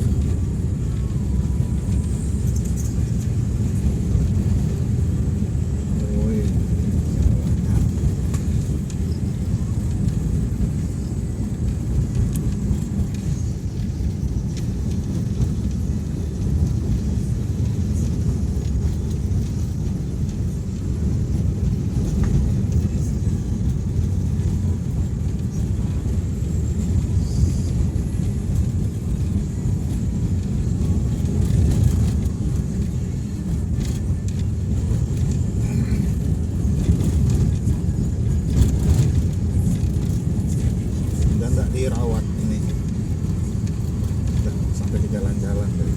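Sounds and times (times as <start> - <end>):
road noise: 0.0 - 45.9
vehicle engine rumble: 0.0 - 45.9.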